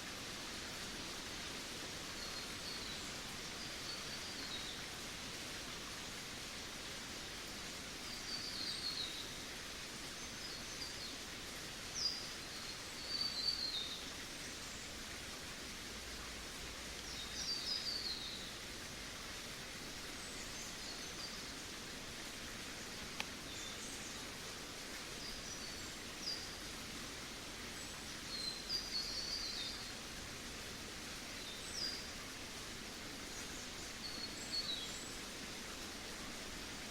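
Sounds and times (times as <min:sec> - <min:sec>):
steady outdoor hiss: 0:00.0 - 0:36.9.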